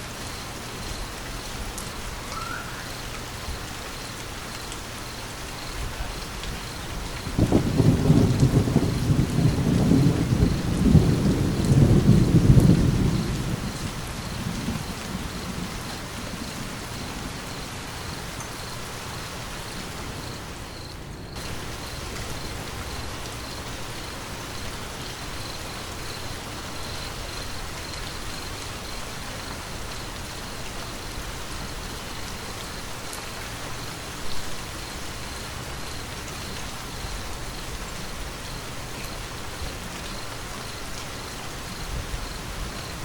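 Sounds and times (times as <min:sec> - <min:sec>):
rain falling: 0:00.0 - 0:43.0.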